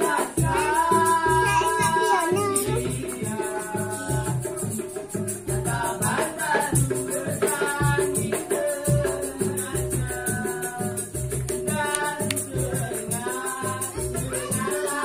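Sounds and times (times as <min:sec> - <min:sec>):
fast percussion rattle: 0:00.0 - 0:15.0.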